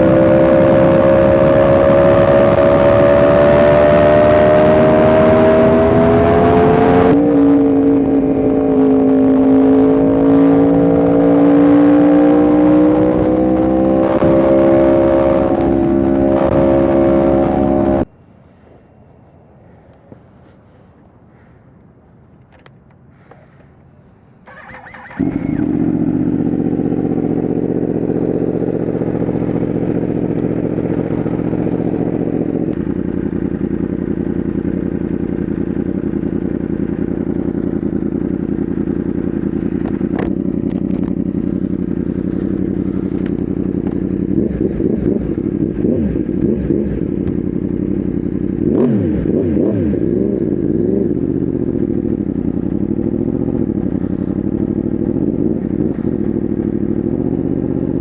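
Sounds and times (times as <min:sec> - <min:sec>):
engine revving: 0:00.0 - 0:18.1, 0:23.2 - 0:32.8, 0:36.9 - 0:58.0
motorcycle engine starting and idling: 0:00.0 - 0:18.1, 0:19.4 - 0:58.0.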